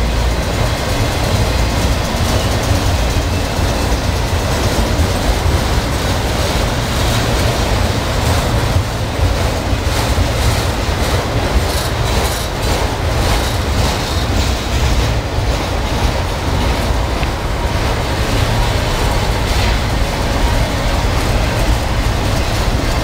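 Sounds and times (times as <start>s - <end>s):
train wheels rumbling on rails: 0.0s - 23.0s
wind buffeting microphone: 0.0s - 23.0s.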